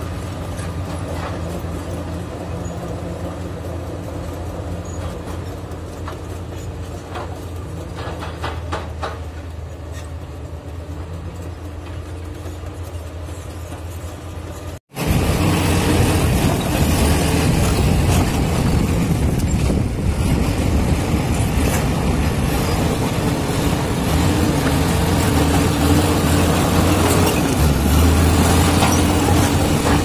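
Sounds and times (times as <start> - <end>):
bulldozer diesel engine running: 0.0 - 30.0
clanks from tracks and rock: 0.0 - 30.0.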